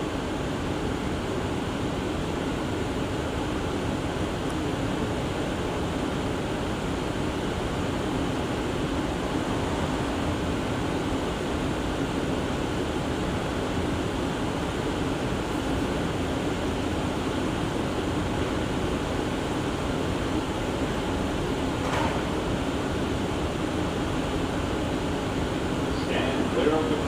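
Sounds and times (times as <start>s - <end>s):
subway car ventilation hum: 0.0s - 27.0s.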